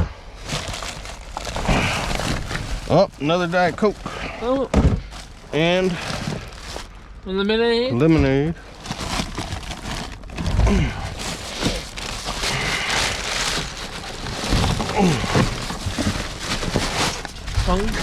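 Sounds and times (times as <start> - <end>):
plastic bags rustling: 0.4 - 7.6, 8.2 - 18.0.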